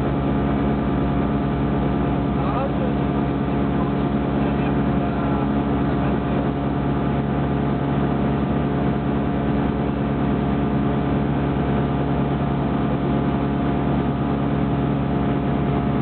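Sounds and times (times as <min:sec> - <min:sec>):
light aircraft engine and propeller: 0:00.0 - 0:16.0.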